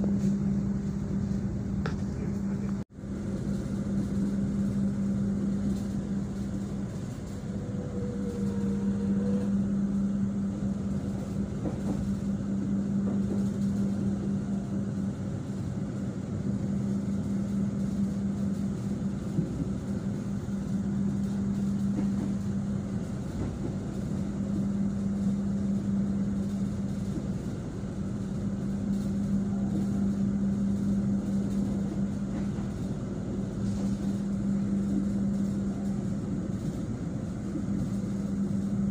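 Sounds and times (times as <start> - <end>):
constant hum: 0.0 - 38.9
train carriage running noise: 0.0 - 38.9.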